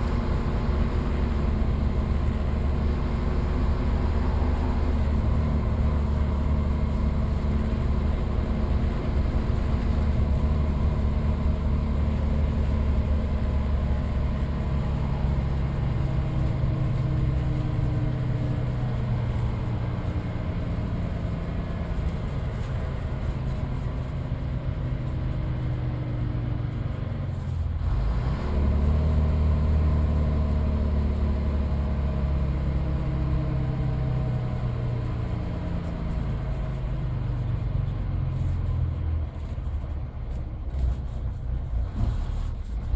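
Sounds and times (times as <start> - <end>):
bus diesel engine running: 0.0 - 42.9
road noise: 0.0 - 42.9.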